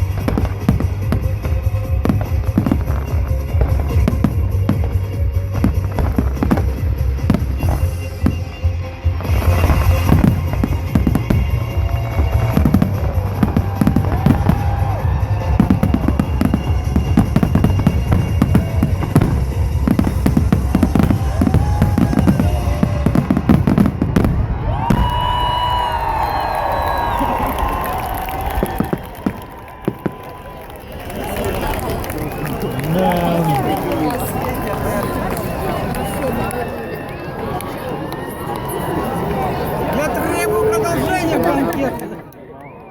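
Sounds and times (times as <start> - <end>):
fireworks bangs and crackles: 0.0 - 42.1.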